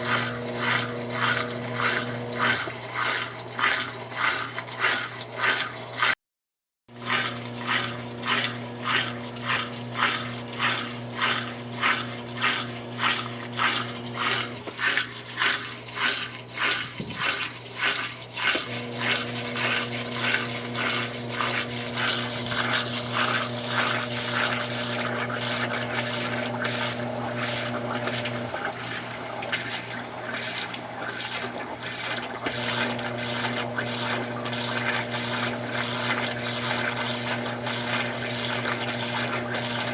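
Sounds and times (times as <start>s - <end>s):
washing machine hum: 0.0s - 6.2s, 6.9s - 39.9s
water swishing: 0.0s - 6.2s, 6.9s - 39.9s.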